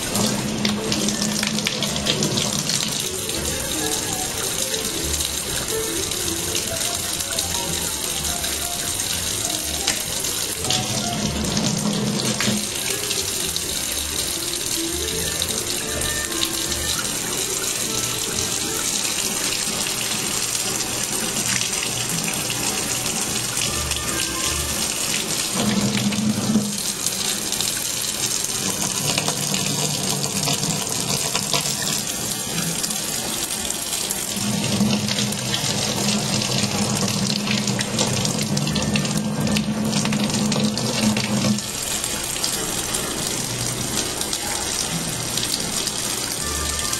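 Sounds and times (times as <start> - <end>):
faucet water splashing into sink: 0.0 - 46.9.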